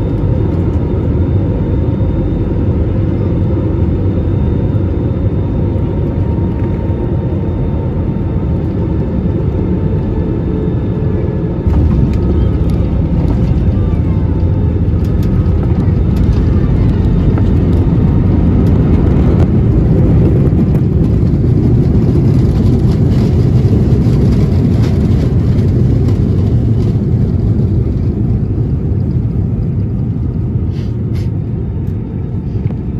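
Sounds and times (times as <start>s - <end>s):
jet engines rumbling in cabin: 0.0s - 32.9s.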